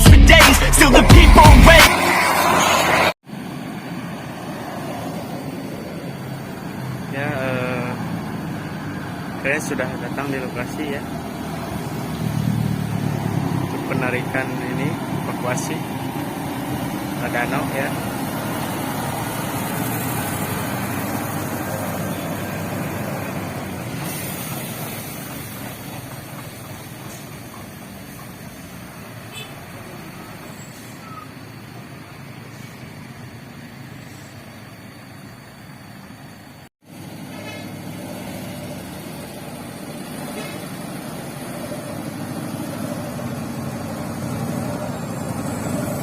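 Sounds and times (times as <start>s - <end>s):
heavy vehicle engine running: 0.0s - 46.0s
road traffic: 0.0s - 46.0s.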